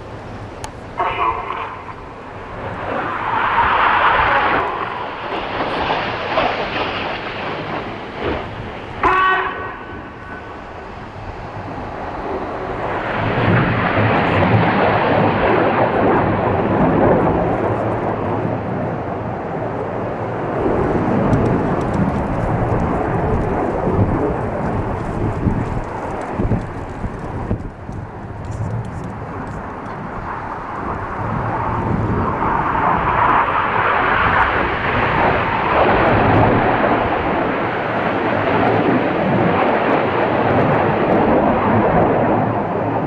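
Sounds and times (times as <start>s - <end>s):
jet aircraft rushing rumble: 0.0s - 43.0s.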